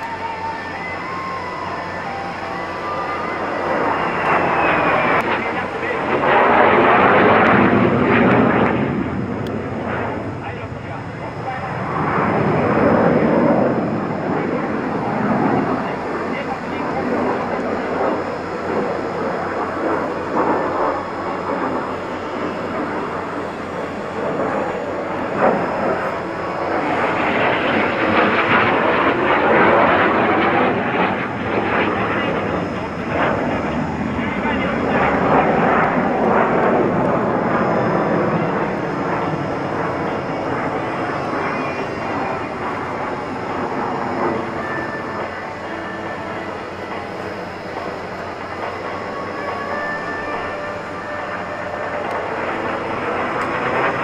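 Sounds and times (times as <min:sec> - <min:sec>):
jet aircraft rushing: 0:00.0 - 0:54.0.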